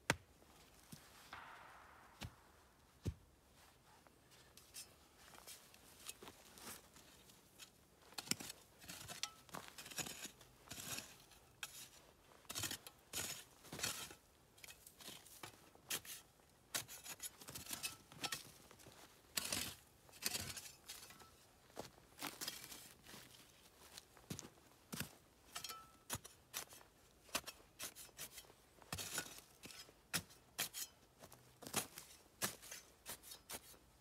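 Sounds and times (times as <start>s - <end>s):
rustling and scraping of handwork: 3.6s - 34.0s.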